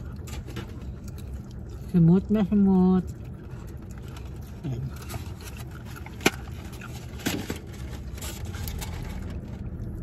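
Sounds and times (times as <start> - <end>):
low rumble of car cabin: 0.0 - 10.0.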